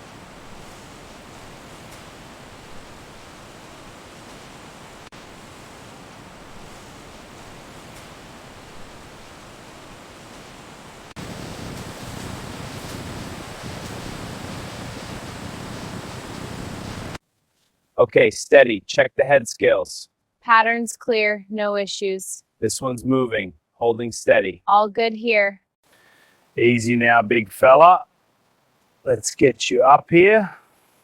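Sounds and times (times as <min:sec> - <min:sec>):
steady background hiss: 0:00.0 - 0:20.0, 0:22.6 - 0:24.6, 0:25.8 - 0:31.0.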